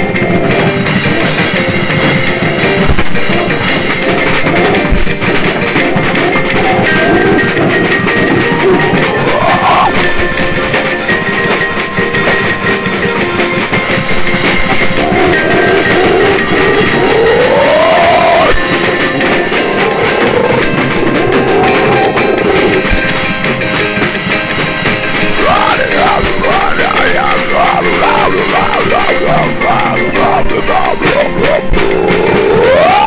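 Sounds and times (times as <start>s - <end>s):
bass guitar: 0.0s - 33.0s
clashing drums: 0.0s - 33.0s
distorted guitar: 0.0s - 33.0s.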